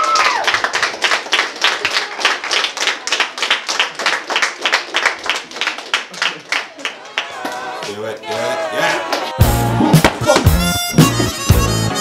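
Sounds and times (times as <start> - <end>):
crowd applauding: 0.0 - 11.8.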